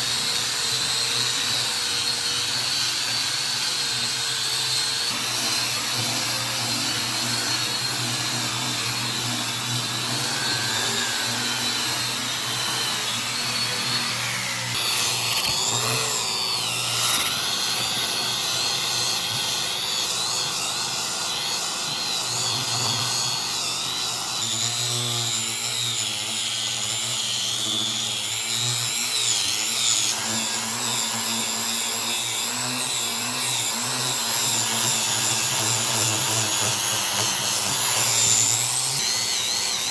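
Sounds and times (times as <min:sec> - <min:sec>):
electric power tool running: 0:00.0 - 0:39.9.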